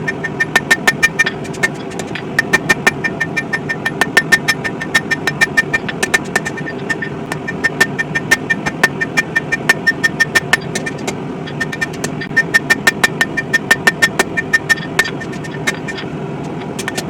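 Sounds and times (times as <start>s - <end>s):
hammer striking steel on anvil: 0.0s - 16.0s.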